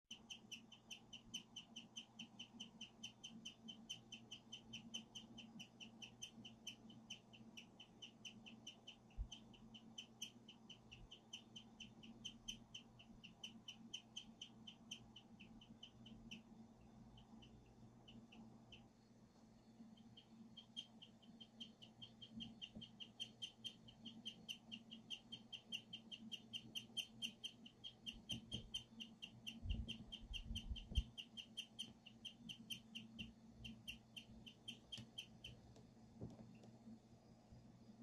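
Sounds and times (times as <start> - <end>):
guinea pig chirping: 0.1 - 36.7.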